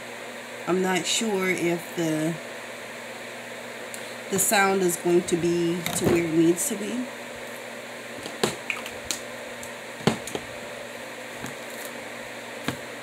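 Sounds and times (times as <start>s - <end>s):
steady room hiss: 0.0s - 13.0s.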